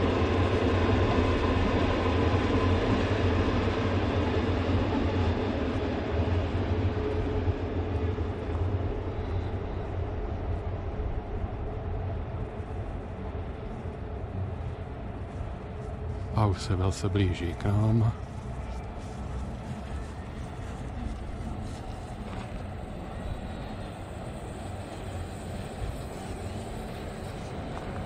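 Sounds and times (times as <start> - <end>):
faint whine: 0.0 - 28.0
train wheels rumbling on rails: 0.0 - 28.0.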